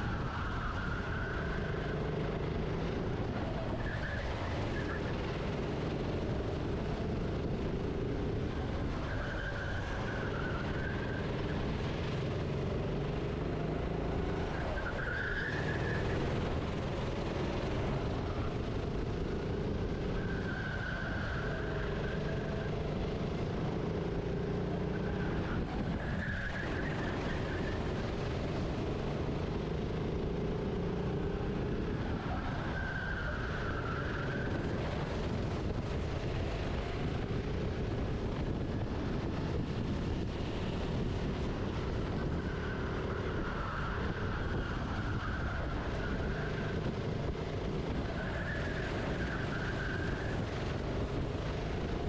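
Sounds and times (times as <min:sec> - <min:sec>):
go-kart engine racing: 0:00.0 - 0:52.0.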